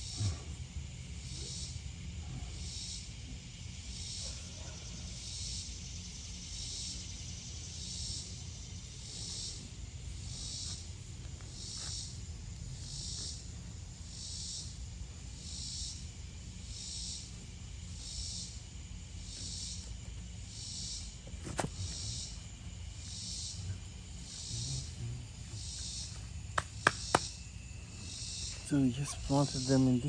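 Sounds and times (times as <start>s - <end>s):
rhythmic pulsing hiss: 0.0s - 30.0s.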